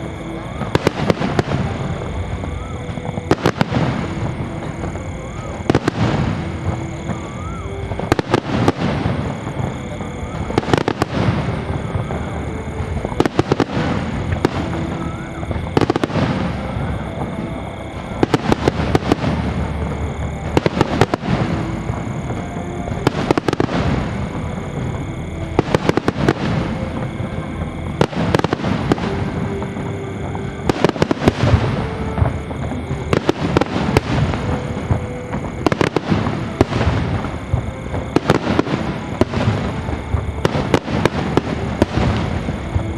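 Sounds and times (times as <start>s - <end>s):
fireworks bangs and crackling: 0.0s - 42.9s
music playing: 0.0s - 42.9s.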